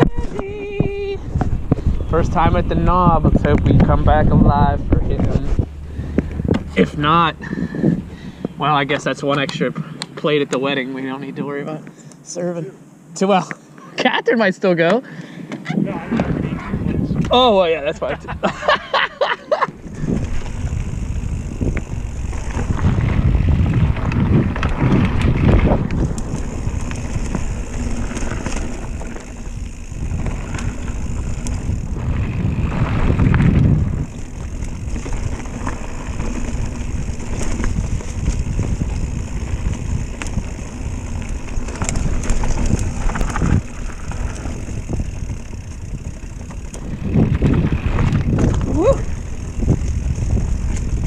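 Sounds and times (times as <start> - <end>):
wind buffeting microphone: 0.0 - 9.9, 15.6 - 18.8, 19.6 - 51.0
bike rattling and knocking: 0.0 - 10.9, 19.6 - 51.0
bike tyres rumbling on dirt: 0.0 - 11.7, 15.8 - 51.0.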